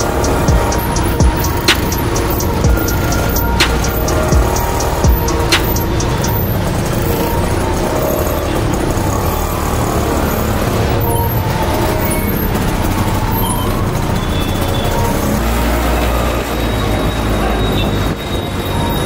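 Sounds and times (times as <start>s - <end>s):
auto-rickshaw engine and road rumble: 0.0s - 19.0s
surrounding traffic: 0.0s - 19.0s.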